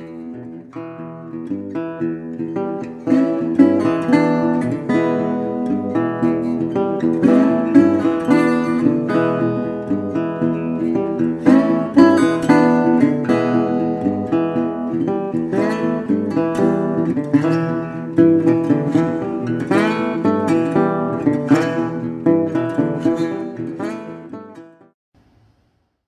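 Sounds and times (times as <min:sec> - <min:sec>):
acoustic guitar strummed and plucked: 0:00.0 - 0:25.6.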